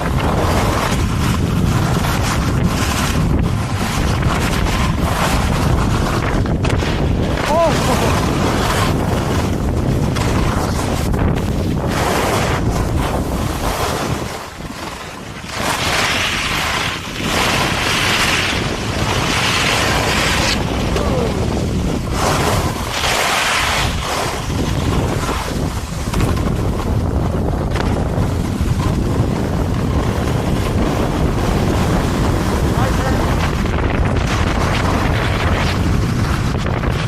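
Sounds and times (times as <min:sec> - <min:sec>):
skis swishing on snow: 0:00.0 - 0:37.0
wind buffeting microphone: 0:00.0 - 0:37.0.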